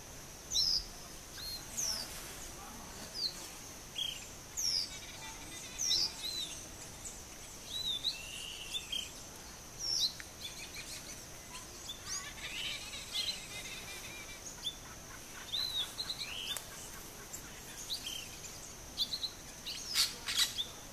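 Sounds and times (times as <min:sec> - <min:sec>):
small birds chirping: 0:00.0 - 0:20.9
steady high-pitched whine: 0:00.0 - 0:20.9.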